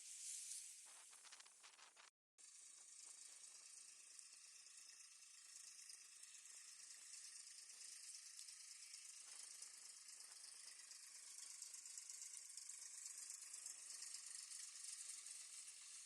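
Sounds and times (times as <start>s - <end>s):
faint high-pitched hiss: 0.0s - 16.0s.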